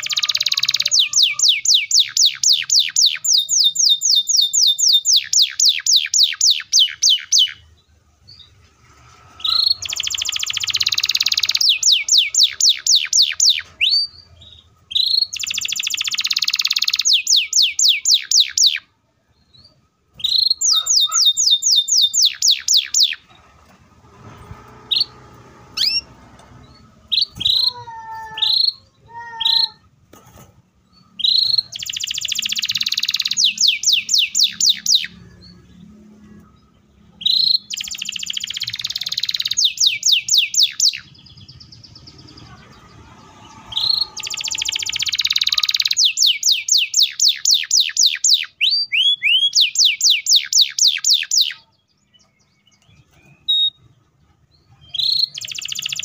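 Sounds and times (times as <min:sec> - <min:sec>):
canary singing trills: 0:00.0 - 0:30.0, 0:30.8 - 0:56.0.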